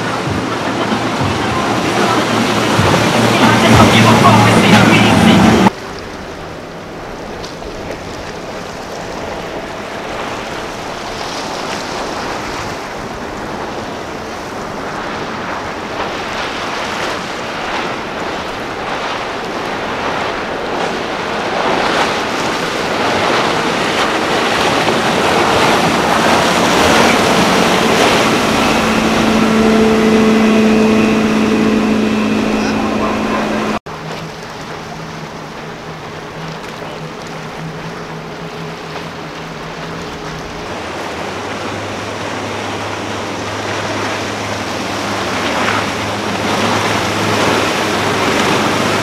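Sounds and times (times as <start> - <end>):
motorboat engine drone: 0.0 - 49.0
water rushing against boat hull: 0.0 - 49.0.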